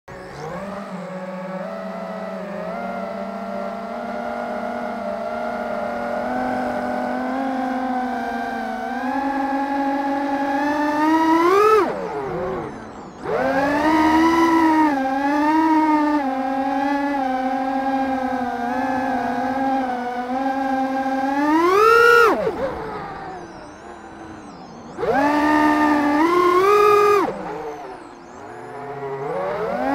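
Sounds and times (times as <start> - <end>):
quadcopter motors whining: 0.1 - 29.9.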